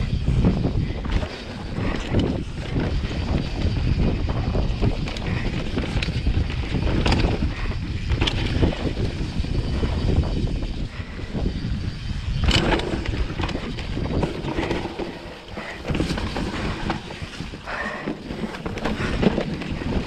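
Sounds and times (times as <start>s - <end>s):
bike rattling over bumps: 0.0s - 20.0s
wind buffeting microphone: 0.0s - 20.0s
tyres on dirt: 0.2s - 11.2s, 12.0s - 20.0s.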